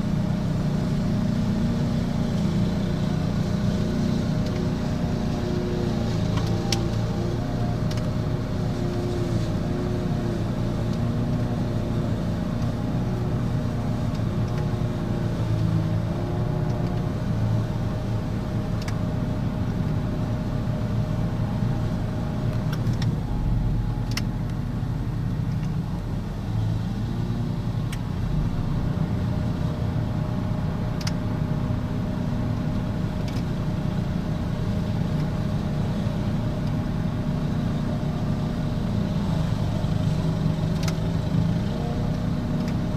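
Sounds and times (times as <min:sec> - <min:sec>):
mower engine running: 0:00.0 - 0:42.9.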